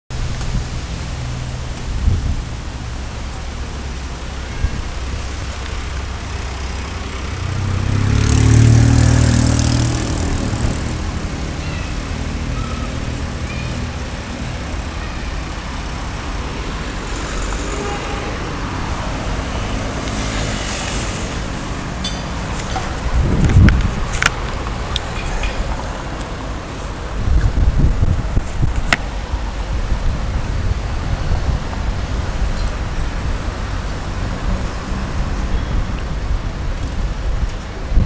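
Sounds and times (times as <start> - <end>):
street traffic rumble: 0.1 - 38.0
vehicle passing with high hiss: 0.2 - 36.7.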